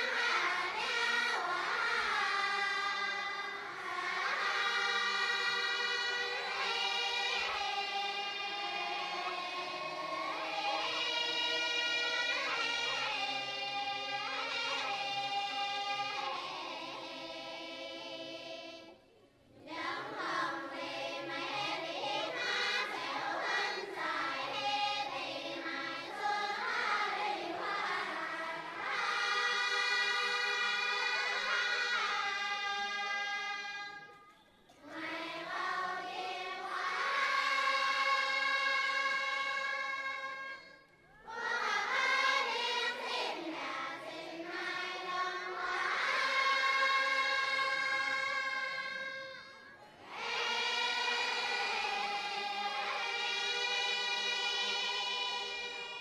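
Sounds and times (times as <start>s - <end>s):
group of voices singing: 0.0s - 19.0s, 19.6s - 56.0s.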